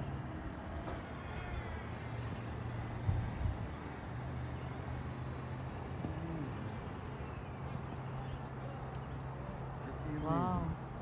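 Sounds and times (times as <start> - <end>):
low mechanical hum: 0.0 - 11.0
outdoor noise rush: 0.0 - 11.0.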